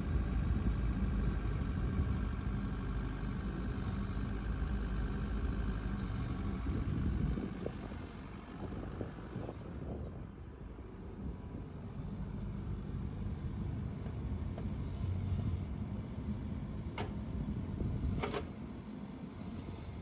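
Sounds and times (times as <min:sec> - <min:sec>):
mini excavator diesel engine: 0:00.0 - 0:20.0.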